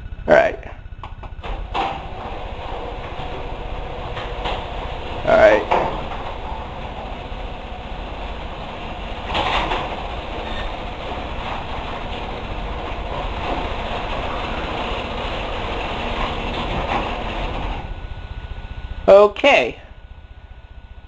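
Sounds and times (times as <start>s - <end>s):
garage door opener rumbling: 0.0s - 19.2s.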